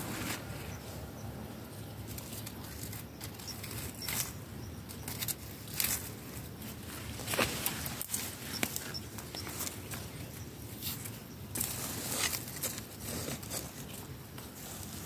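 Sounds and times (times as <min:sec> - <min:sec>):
dry leaves and twigs crackling: 0:00.0 - 0:15.0.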